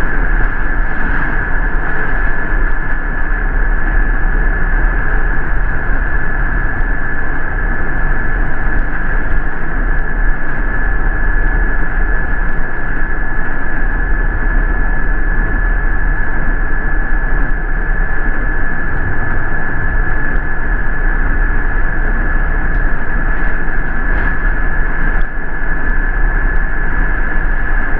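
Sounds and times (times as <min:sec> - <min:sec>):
bus rumble: 0:00.0 - 0:27.9
high whine: 0:00.0 - 0:27.9.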